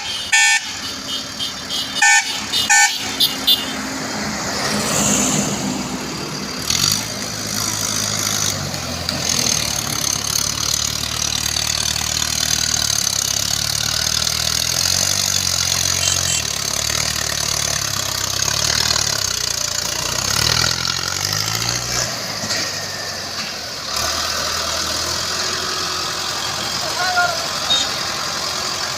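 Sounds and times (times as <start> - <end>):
diesel tractor engine running: 0.0 - 28.9.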